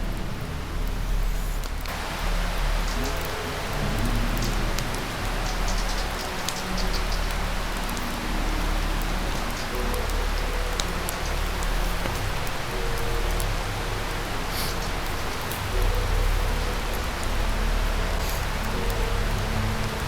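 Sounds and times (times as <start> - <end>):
river rushing: 0.1 - 20.0.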